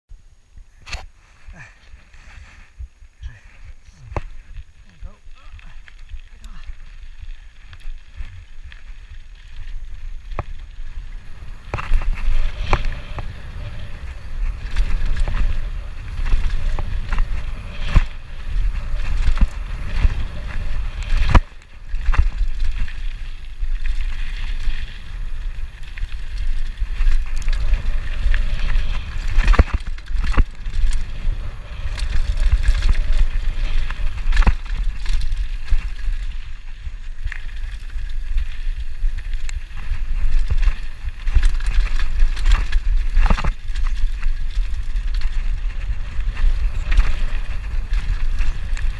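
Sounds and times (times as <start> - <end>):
tyres crunching over gravel: 1.4 - 48.9
wind buffeting microphone: 2.7 - 48.9
bike rattling over bumps: 3.9 - 48.9.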